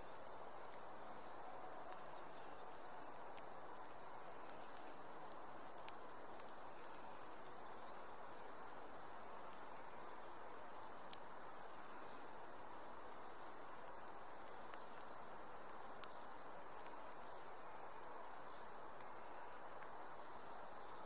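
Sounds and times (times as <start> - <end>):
faint bird chirps: 0.0 - 21.0
outdoor background hiss: 0.0 - 21.0.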